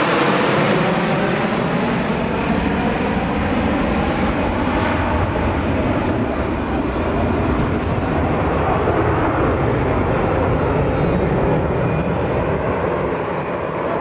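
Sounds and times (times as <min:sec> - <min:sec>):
aircraft engines droning overhead: 0:00.0 - 0:14.0.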